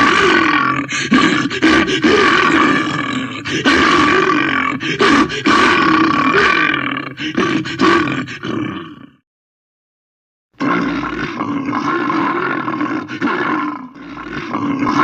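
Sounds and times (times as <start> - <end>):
cartoon bear growls and roars: 0.0 - 9.2, 10.6 - 15.0.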